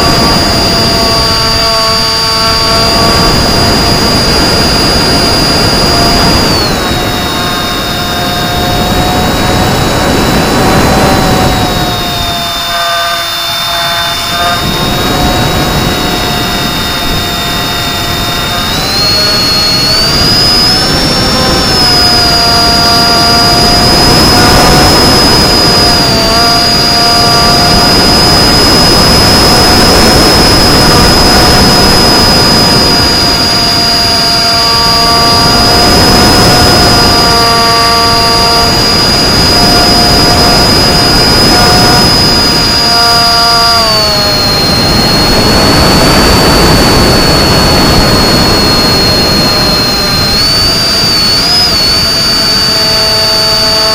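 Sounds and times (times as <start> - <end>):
electric motor high whine: 0.0 - 53.9
rushing wind noise: 0.0 - 53.9.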